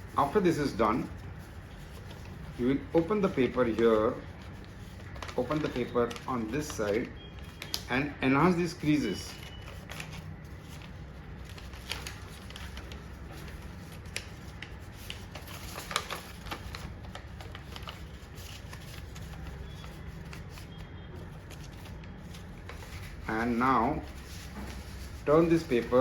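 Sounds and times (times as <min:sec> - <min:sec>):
paper crinkling and crackling: 0:00.0 - 0:26.0.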